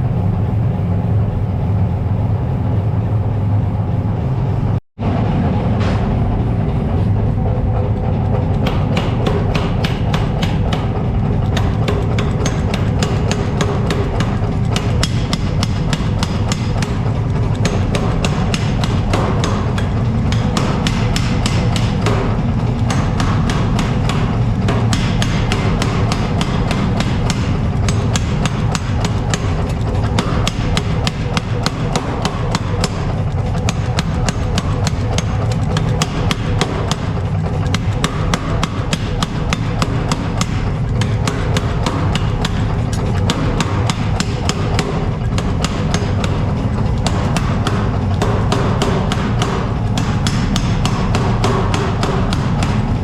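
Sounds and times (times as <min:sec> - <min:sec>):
hammer striking steel: 0:08.0 - 0:53.0.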